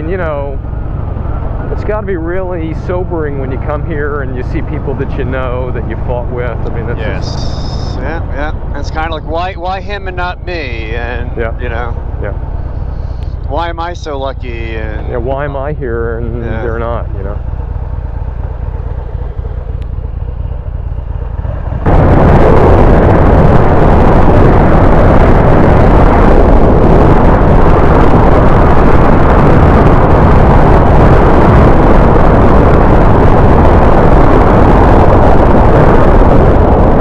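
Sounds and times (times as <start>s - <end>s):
motorcycle engine running: 0.0s - 36.7s
wind buffeting microphone: 0.0s - 37.0s.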